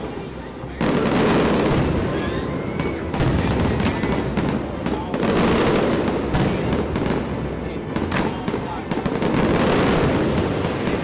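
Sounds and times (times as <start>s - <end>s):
firework booms and crackling: 0.0s - 11.0s.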